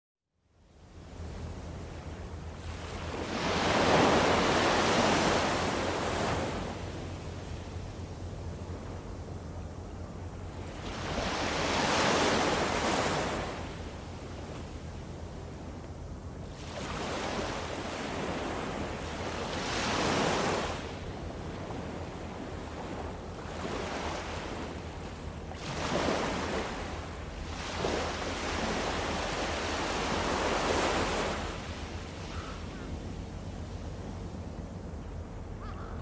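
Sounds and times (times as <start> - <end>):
waves washing onto beach: 1.6 - 15.9, 16.5 - 32.6.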